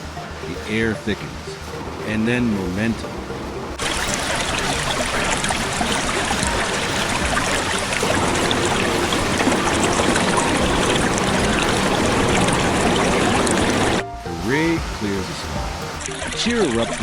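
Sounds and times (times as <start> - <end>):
splashes: 0.0 - 17.0
water rushing: 0.0 - 17.0.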